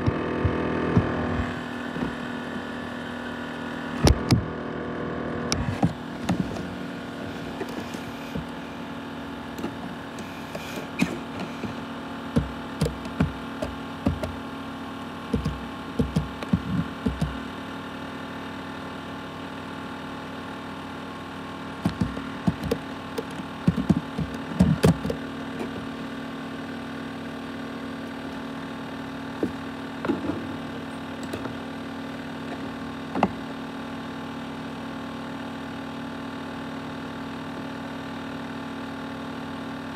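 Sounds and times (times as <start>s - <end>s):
laptop fan hum: 0.0s - 18.8s, 20.3s - 35.1s.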